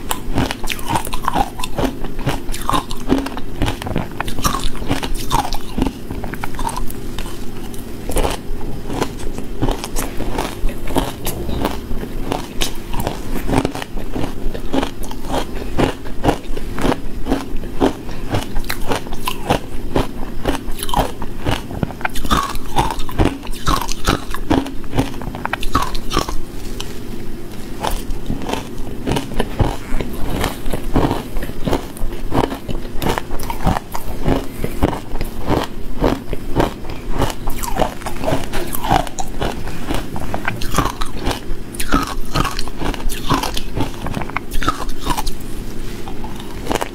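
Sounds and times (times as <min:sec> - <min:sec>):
crunching and chewing ice: 0:00.0 - 0:46.9.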